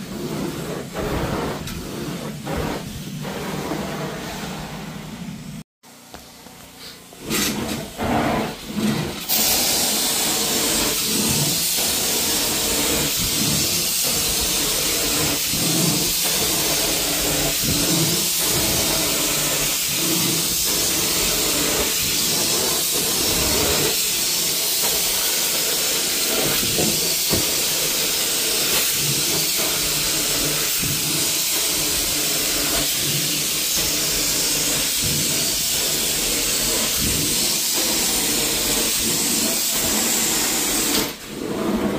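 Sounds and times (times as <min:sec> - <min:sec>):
carpet cleaner wand hissing: 0:00.0 - 0:05.4, 0:06.8 - 0:41.9.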